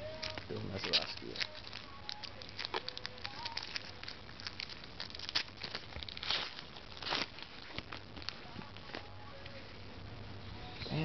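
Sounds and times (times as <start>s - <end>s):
cards clicking and rustling: 0.2s - 9.1s.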